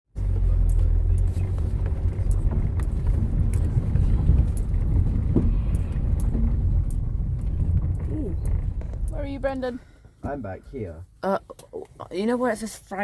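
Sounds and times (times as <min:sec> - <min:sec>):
road noise: 0:00.1 - 0:13.0
van engine rumble: 0:00.1 - 0:13.0.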